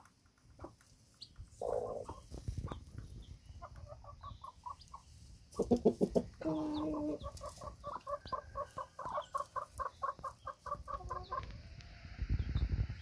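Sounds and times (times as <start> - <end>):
hen clucking: 0.0 - 11.6.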